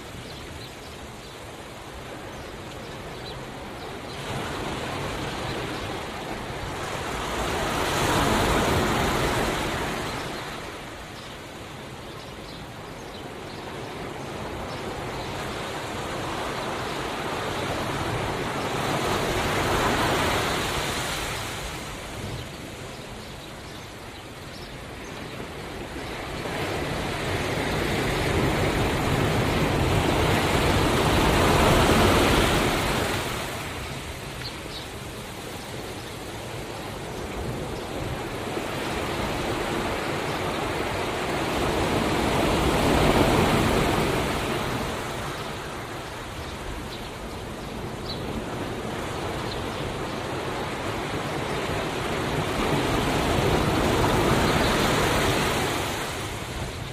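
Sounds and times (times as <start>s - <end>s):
ocean waves on shore: 0.0s - 56.9s.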